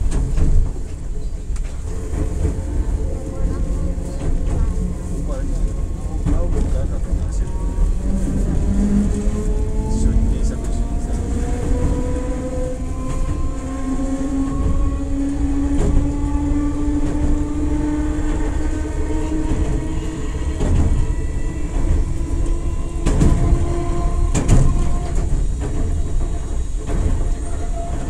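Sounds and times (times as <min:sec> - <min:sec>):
train rumble: 0:00.0 - 0:28.0
wheels clacking over rail joints: 0:00.0 - 0:28.0.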